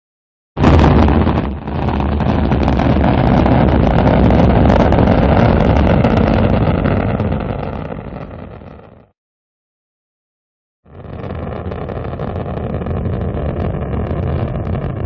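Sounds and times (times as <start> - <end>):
rocket engine rumbling: 0.6 - 8.9, 10.9 - 15.0.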